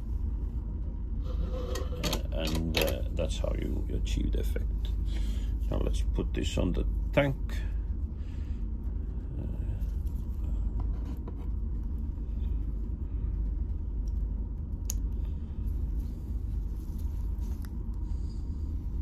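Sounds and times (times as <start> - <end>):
ship engine low rumble: 0.0 - 19.0.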